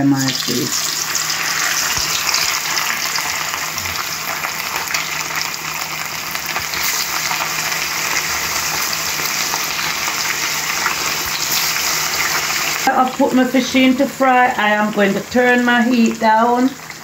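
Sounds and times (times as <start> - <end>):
fish sizzling in oil: 0.1 - 17.0.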